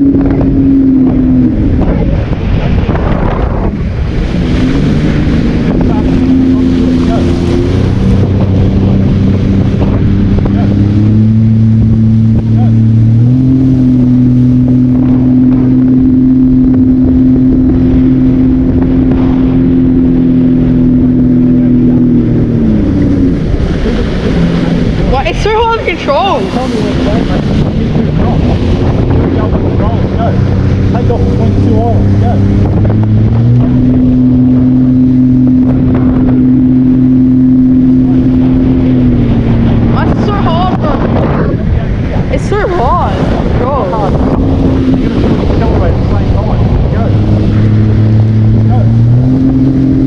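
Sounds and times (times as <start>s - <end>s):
jet ski engine at high revs: 0.0s - 50.0s.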